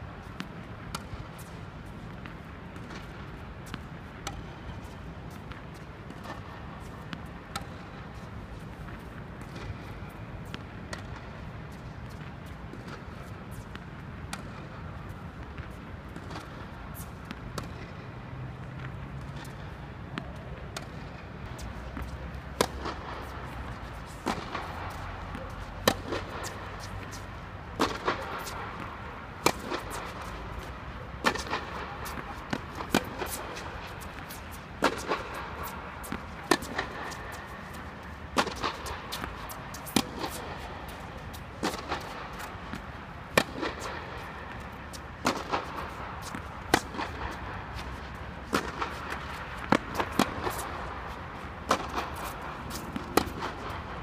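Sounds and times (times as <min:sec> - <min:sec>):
tennis balls bouncing on court: 0:00.3 - 0:54.0
tennis balls hit by rackets: 0:02.1 - 0:54.0.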